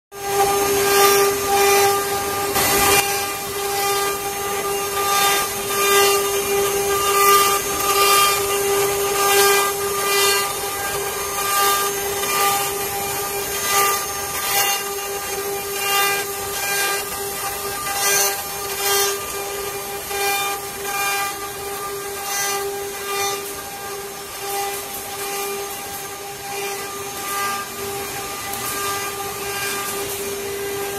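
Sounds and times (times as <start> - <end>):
rasping wood cutting noise: 0.1 - 30.9
router spindle high whine: 0.2 - 30.9.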